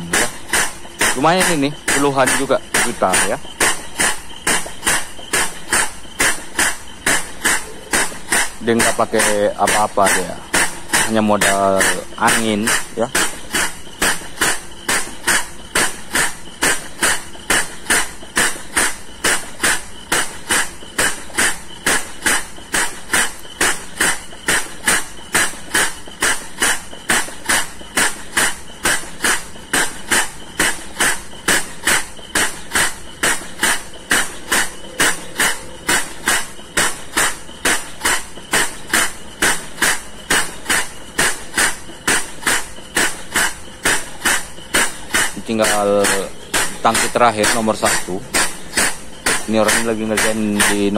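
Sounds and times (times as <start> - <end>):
air pump chuffing: 0.0 - 50.9.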